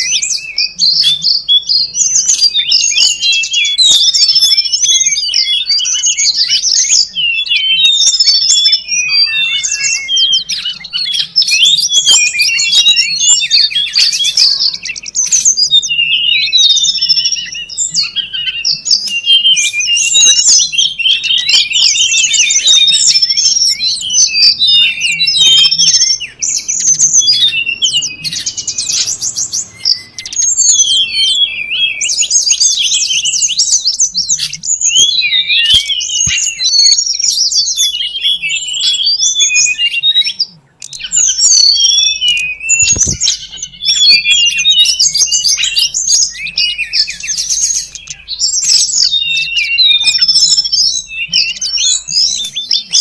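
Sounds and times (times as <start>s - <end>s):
songbird chirps and trills: 0.0s - 53.0s.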